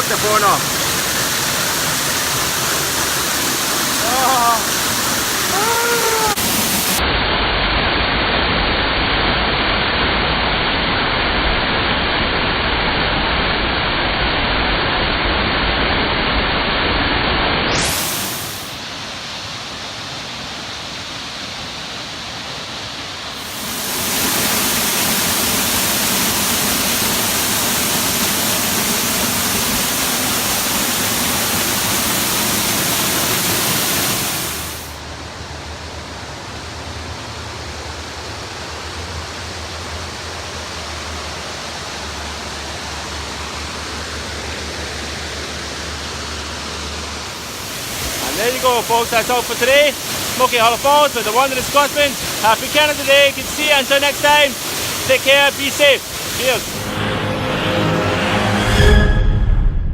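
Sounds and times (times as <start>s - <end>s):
waterfall rushing: 0.0s - 15.9s, 17.4s - 58.9s.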